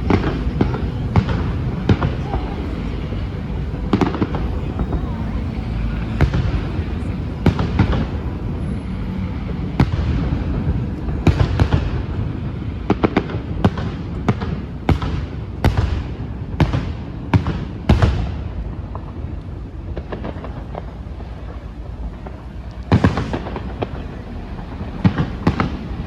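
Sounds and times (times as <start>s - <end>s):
fireworks bangs: 0.0s - 8.6s, 9.8s - 26.0s
steady low rumble: 0.0s - 26.0s.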